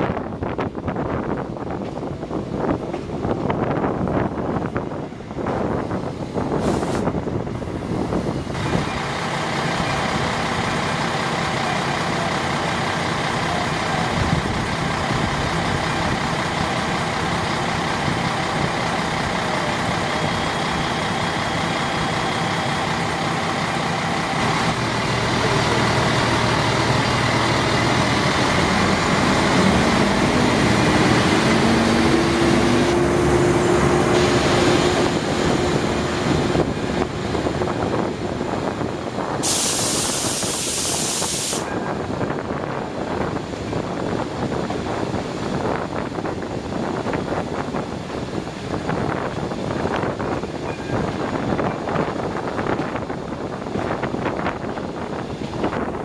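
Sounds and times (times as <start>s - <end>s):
wind noise: 0.0s - 11.6s, 12.6s - 56.0s
diesel railcar engine hum: 0.0s - 56.0s
wheels rumbling on rails: 0.0s - 56.0s.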